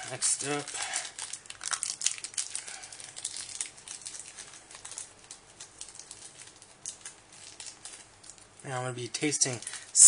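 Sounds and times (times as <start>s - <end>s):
cellophane wrapper crinkling: 0.0s - 10.0s.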